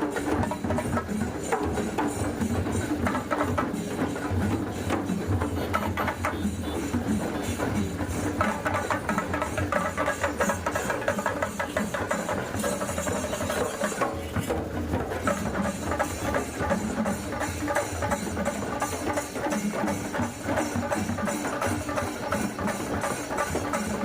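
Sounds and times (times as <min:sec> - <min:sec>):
drums and percussion playing: 0:00.0 - 0:24.0.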